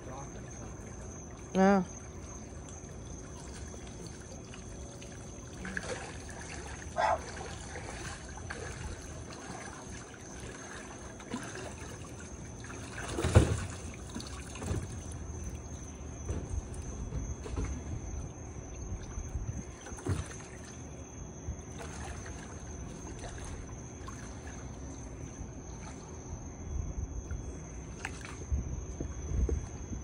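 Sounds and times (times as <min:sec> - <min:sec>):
water trickling and dripping: 0:00.0 - 0:26.2.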